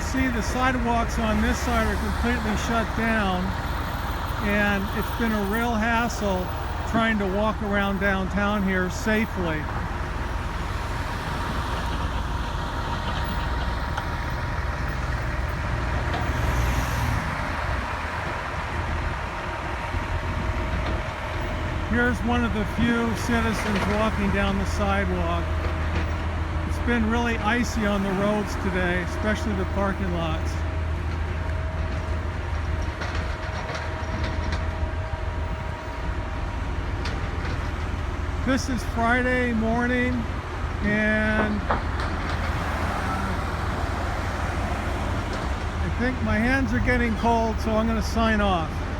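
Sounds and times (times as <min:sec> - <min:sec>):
road vehicle engines rumbling: 0:00.0 - 0:48.9.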